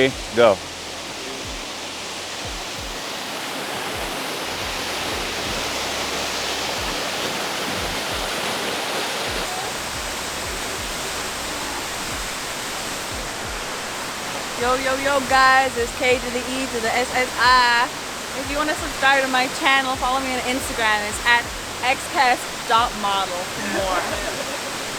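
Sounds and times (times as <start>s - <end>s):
soft low thumps: 0.0s - 3.1s, 4.0s - 8.4s, 9.3s - 24.8s
waterfall roaring: 0.0s - 24.9s.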